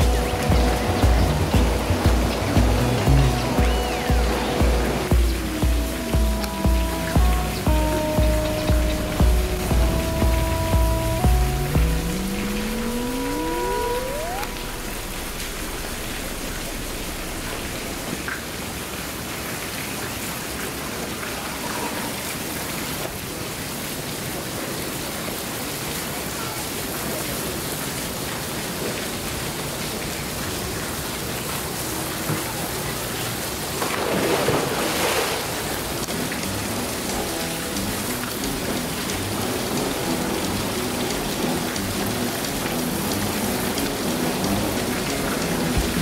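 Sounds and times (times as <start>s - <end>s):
water splashing: 0.0s - 23.3s, 30.4s - 46.0s
water rushing: 0.0s - 46.0s.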